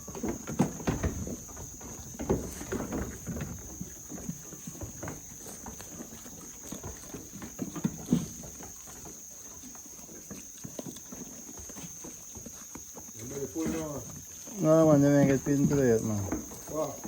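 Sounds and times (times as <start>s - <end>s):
goat hooves clattering: 0.0s - 17.0s.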